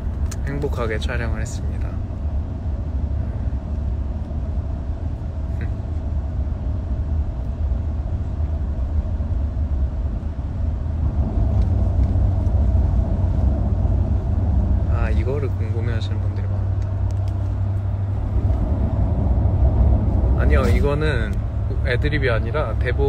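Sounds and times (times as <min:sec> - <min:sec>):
vehicle rumble from inside cabin: 0:00.0 - 0:23.0.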